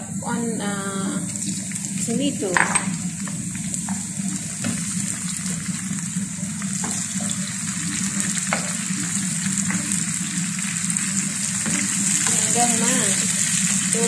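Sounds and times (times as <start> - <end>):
vegetables sizzling in frying pan: 0.3 - 14.0.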